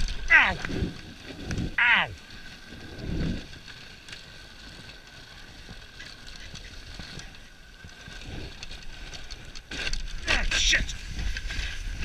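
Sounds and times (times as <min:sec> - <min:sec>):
clicks and knocks from wooden sled: 0:00.0 - 0:12.0
sled runners hissing on snow: 0:00.6 - 0:09.4, 0:10.2 - 0:12.0.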